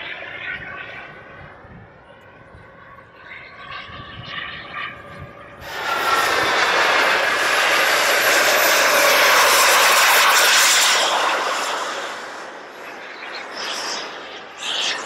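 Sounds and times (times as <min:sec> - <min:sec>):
jet turbine engine whining and roaring: 0:00.0 - 0:15.0.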